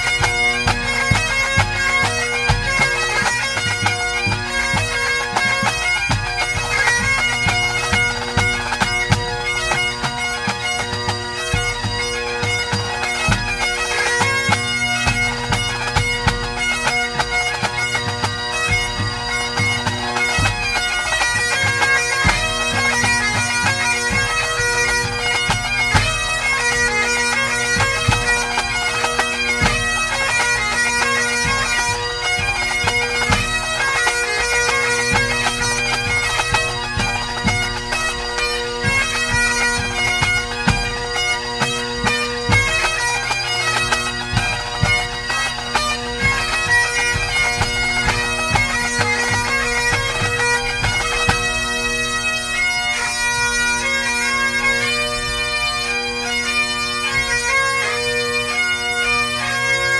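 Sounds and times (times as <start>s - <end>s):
pipe band drums: 0.0s - 59.5s
bagpipes playing: 0.0s - 59.9s.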